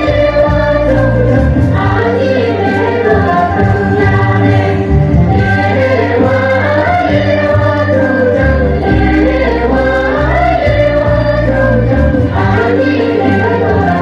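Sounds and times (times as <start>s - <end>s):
music with deep bass line: 0.0s - 14.0s
voices singing together: 0.0s - 14.0s.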